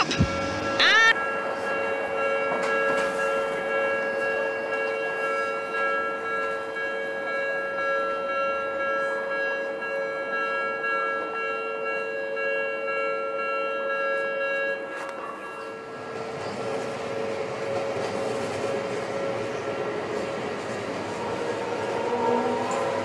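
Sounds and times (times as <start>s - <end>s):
level-crossing warning bell: 0.0s - 23.0s.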